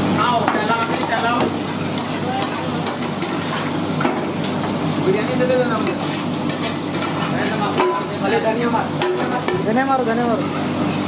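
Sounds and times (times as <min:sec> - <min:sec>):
food sizzling in frying: 0:00.0 - 0:11.0.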